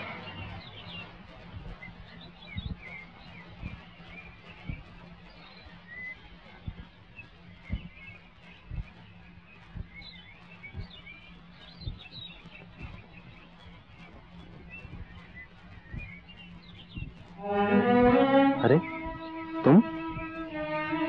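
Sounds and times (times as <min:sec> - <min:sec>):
small birds chirping: 0:00.2 - 0:21.0
steady low hum: 0:01.2 - 0:21.0.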